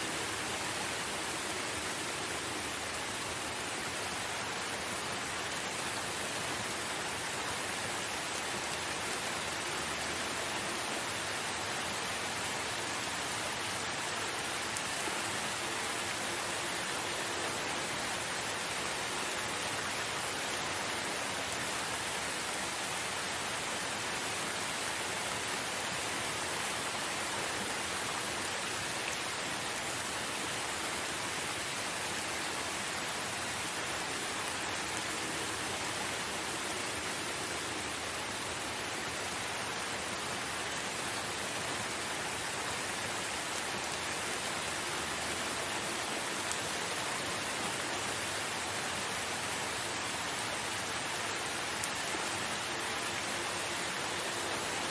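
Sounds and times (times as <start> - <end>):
rain falling in a forest: 0.0 - 54.9.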